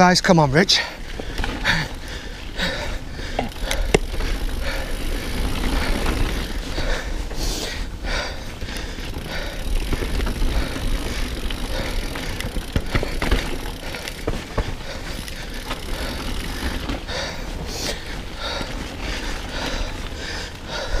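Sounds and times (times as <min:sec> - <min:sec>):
bike tyres rolling on trail: 0:00.0 - 0:21.0
bike frame rattling: 0:00.8 - 0:21.0.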